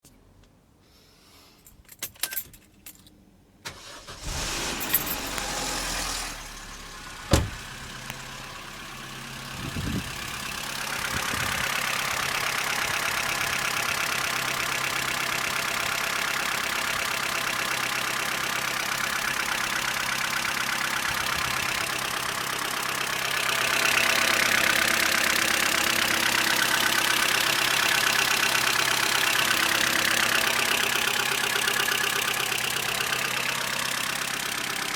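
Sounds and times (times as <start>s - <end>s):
car engine starting and idling: 3.6s - 34.9s
fast steady engine rattle: 6.8s - 34.9s.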